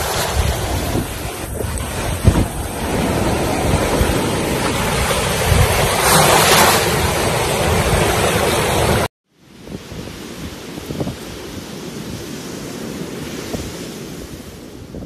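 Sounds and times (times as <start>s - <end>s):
sea surf washing over shallow water: 0.0s - 15.0s
wind buffeting microphone: 0.0s - 15.0s.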